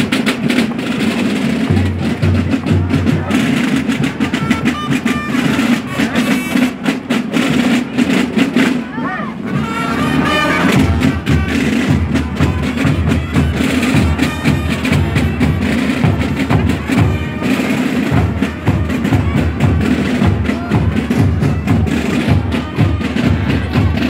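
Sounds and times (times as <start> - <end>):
marching drums: 0.0 - 24.0.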